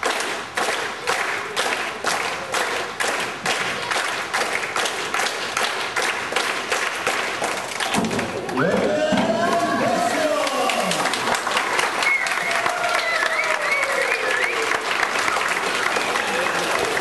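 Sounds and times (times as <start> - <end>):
crowd clapping in rhythm: 0.0 - 8.7, 9.4 - 17.0.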